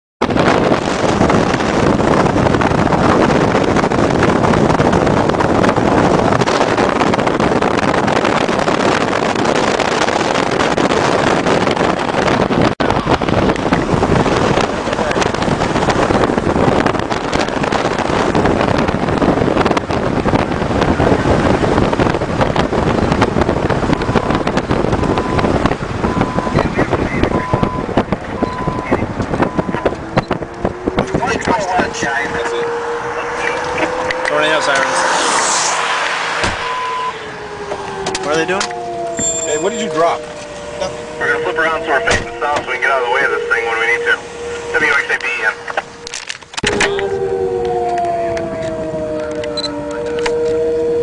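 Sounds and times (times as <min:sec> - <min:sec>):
wind buffeting microphone: 0:00.2 - 0:51.0.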